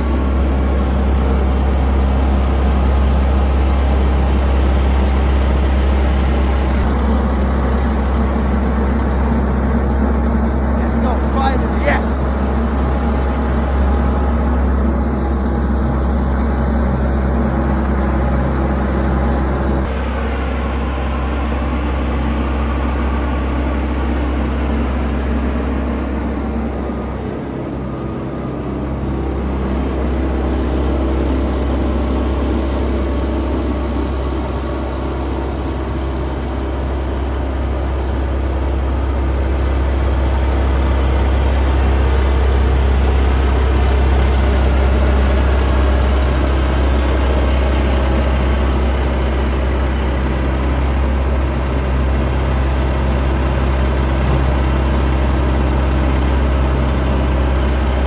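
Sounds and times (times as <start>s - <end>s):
diesel engine deep hum: 0.0s - 58.0s.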